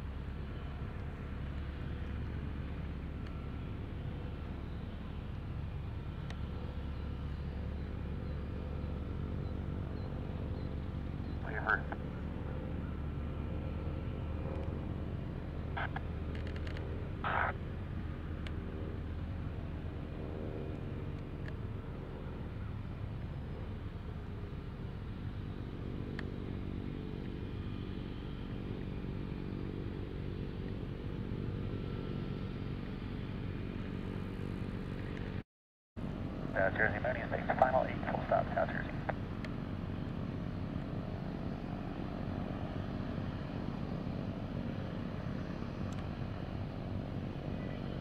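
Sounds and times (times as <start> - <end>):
aircraft engine and propeller droning: 0.0 - 35.4, 36.0 - 48.0.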